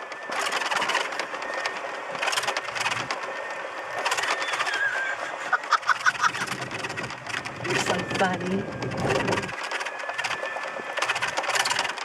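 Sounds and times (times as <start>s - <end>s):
golf cart rattling: 0.0s - 12.0s.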